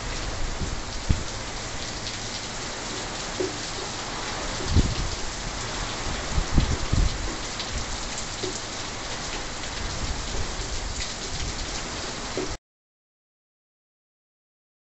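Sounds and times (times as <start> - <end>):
heavy rain pouring: 0.0 - 12.6.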